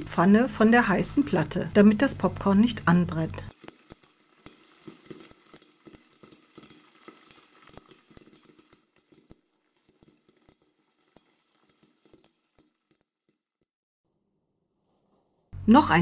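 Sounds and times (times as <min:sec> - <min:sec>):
oil sizzling: 0:00.0 - 0:13.7
popcorn popping: 0:00.0 - 0:13.7.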